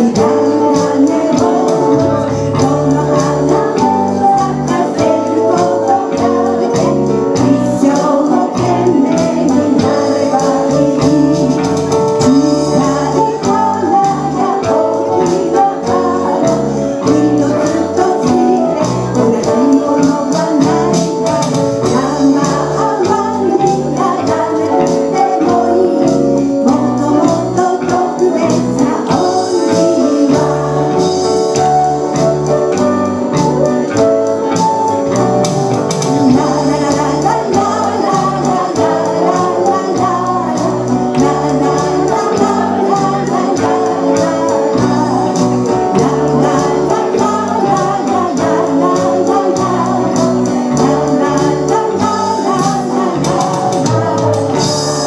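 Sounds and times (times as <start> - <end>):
woman singing pop ballad: 0.0 - 32.1, 36.0 - 55.0
drums beat: 0.0 - 55.0
live band playing: 0.0 - 55.0.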